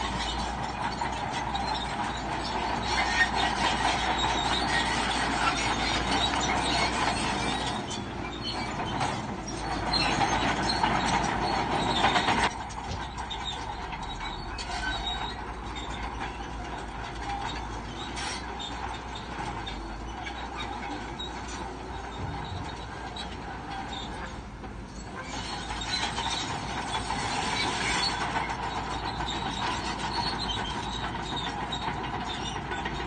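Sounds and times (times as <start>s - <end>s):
bulldozer engine: 0.0s - 33.0s
steel tracks clanking and squealing: 0.0s - 33.0s.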